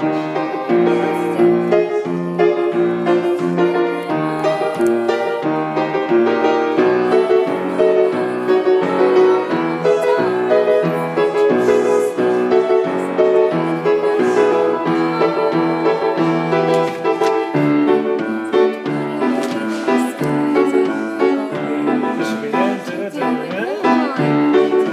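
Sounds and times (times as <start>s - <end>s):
piano chords over bass line: 0.0s - 24.9s.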